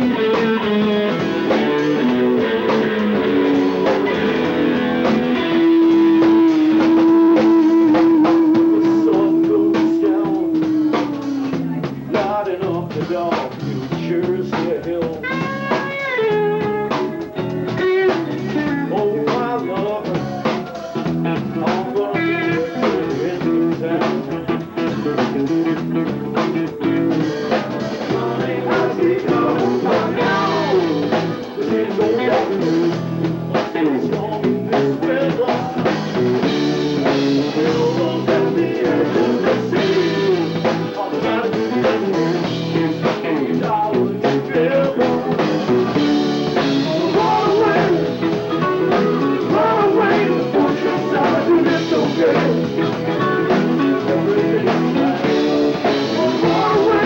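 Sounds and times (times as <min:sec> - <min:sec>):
electric guitar lead: 0:00.0 - 0:12.9, 0:13.5 - 0:57.0
bass guitar: 0:00.0 - 0:57.0
drum kit: 0:00.0 - 0:57.0.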